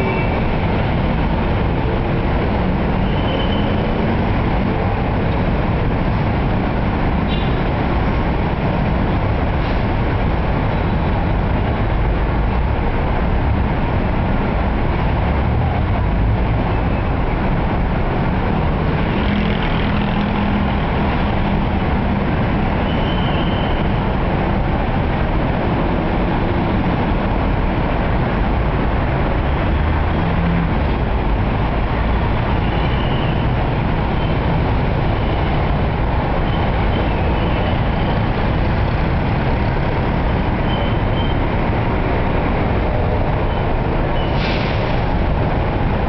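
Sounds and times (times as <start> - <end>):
car and motorbike engines: 0.0 - 46.0
tyres on road: 0.0 - 46.0.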